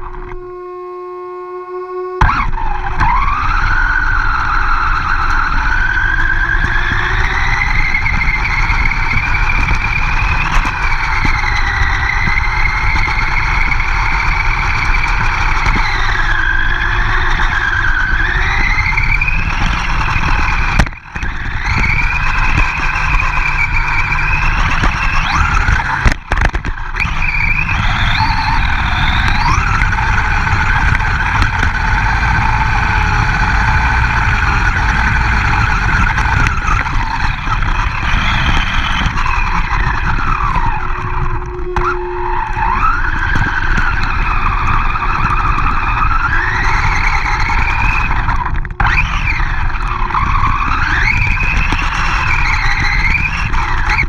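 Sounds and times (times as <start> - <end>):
toy truck motor whining: 0.0 - 54.0
heavy wind: 2.2 - 54.0
tyre rumble: 2.2 - 54.0.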